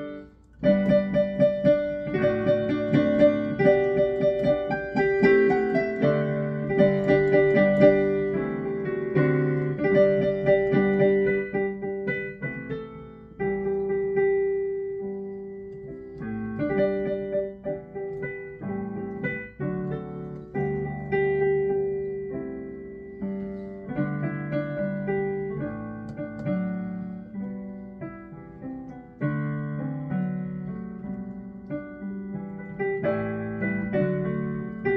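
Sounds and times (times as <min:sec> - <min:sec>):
digital piano playing: 0:00.0 - 0:34.9.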